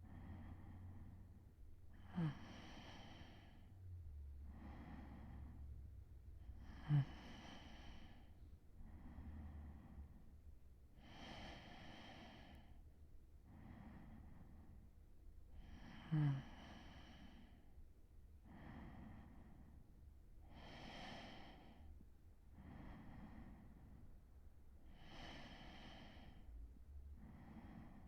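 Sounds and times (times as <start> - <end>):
man breathing softly: 0.0 - 28.0.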